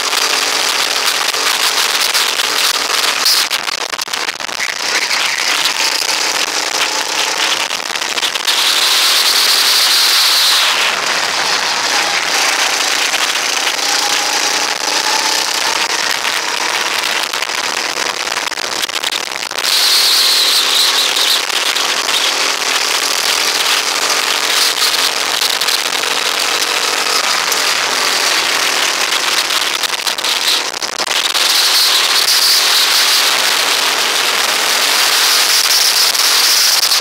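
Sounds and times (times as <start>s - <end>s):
go-kart engine racing: 0.0s - 37.0s.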